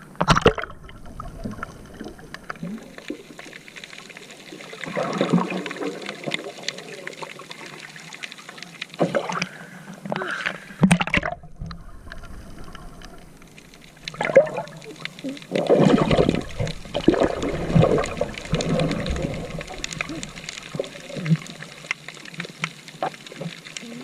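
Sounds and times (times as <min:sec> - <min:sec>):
sea water splashing: 0:00.0 - 0:24.0.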